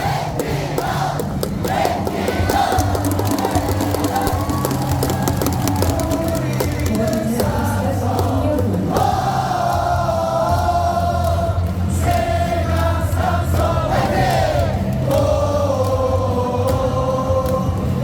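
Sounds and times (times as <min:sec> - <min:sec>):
crowd singing a cheer song: 0:00.0 - 0:18.0.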